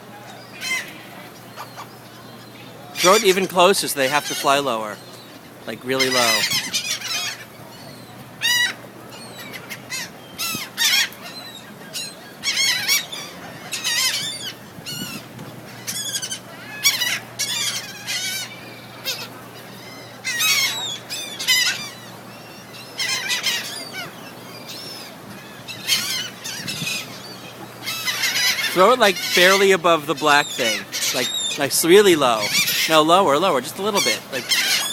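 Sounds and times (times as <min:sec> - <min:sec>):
flock of birds calling: 0:00.0 - 0:34.9.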